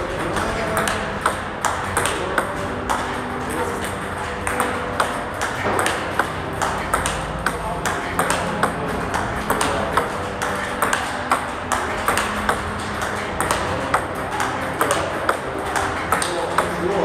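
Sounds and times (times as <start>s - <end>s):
ping pong ball bouncing on table: 0.0s - 17.0s
ping pong ball clicking off bats: 0.0s - 17.0s.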